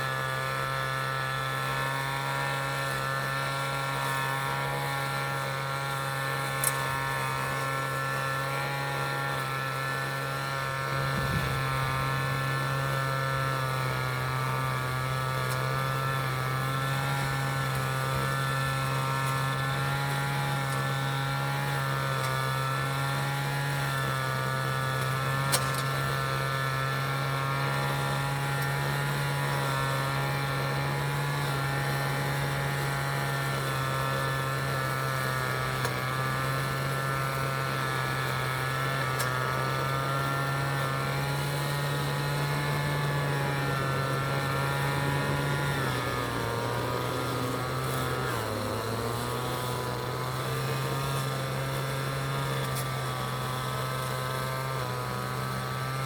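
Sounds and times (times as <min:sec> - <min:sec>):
droning engine hum: 0:00.0 - 0:56.0.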